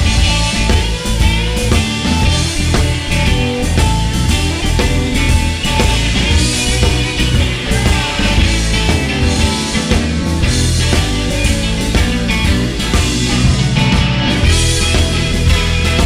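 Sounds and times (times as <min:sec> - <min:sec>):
bass: 0:00.0 - 0:16.0
drums: 0:00.0 - 0:16.0
electric guitars: 0:00.0 - 0:16.0.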